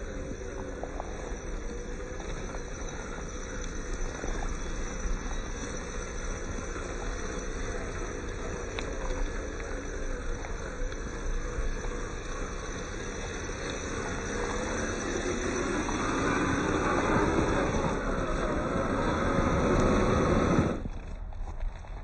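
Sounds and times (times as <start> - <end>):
rc car motor whining: 0.0 - 21.0.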